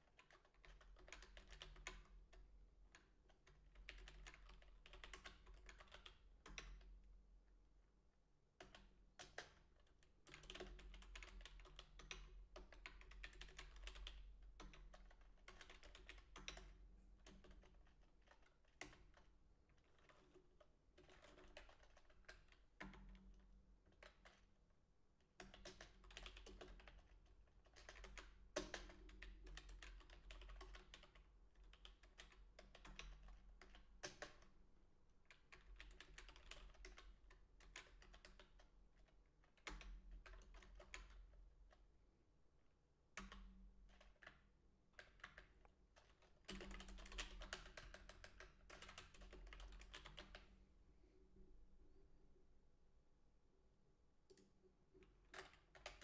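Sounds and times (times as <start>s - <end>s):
typing on computer keyboard: 0.1s - 6.9s, 8.6s - 24.5s, 25.3s - 34.6s, 35.3s - 41.8s, 43.2s - 50.6s, 54.3s - 56.0s.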